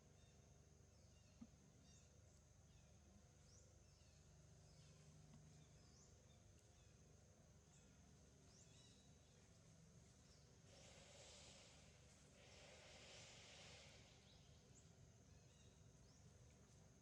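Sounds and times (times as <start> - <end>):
bird chirping: 0.1 - 16.7
high insect-like hiss: 0.2 - 17.0.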